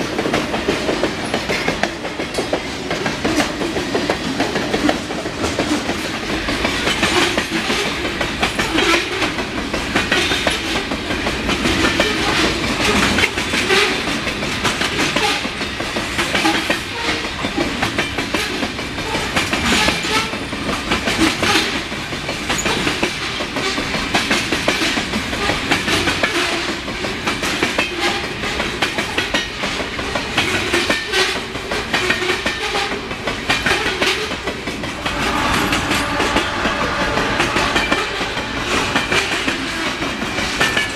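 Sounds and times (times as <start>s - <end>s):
train wheels clicking over rail joints: 0.0s - 40.9s.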